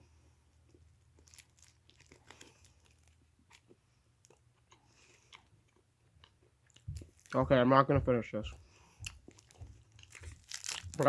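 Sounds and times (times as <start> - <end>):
crunchy chewing: 0.6 - 7.4, 8.5 - 11.0.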